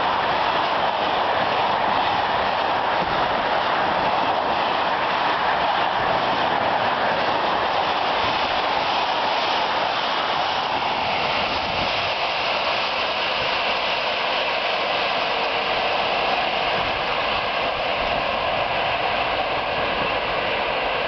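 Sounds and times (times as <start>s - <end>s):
freight train passing close: 0.0s - 21.0s.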